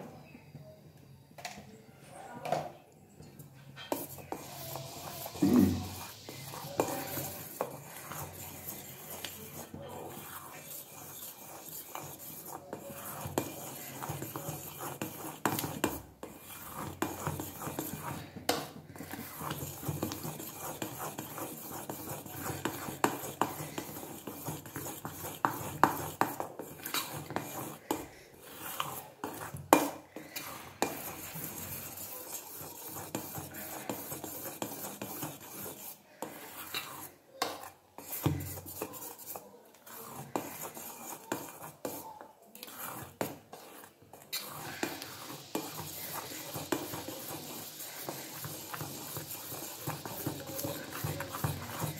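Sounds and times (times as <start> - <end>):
wet batter stirring: 3.1 - 51.9.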